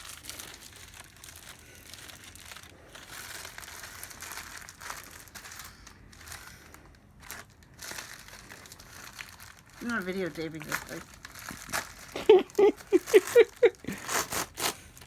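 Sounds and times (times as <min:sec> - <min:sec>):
gift wrapping crinkling: 0:00.0 - 0:15.0.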